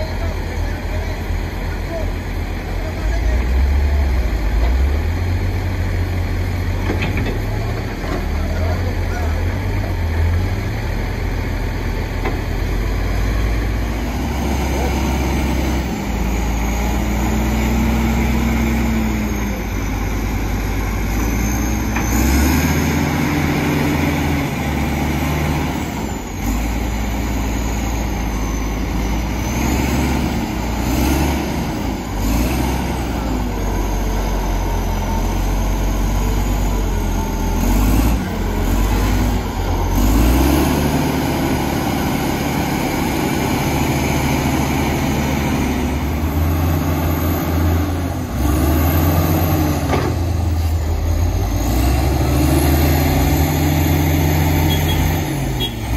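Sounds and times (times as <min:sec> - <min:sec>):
heavy diesel engine revving: 0:00.0 - 0:55.9.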